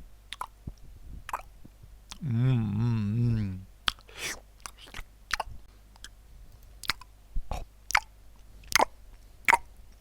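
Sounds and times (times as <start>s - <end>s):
person chewing food: 0.3s - 0.6s, 1.3s - 10.0s
mouth clicks and smacks: 0.3s - 2.3s, 3.3s - 10.0s.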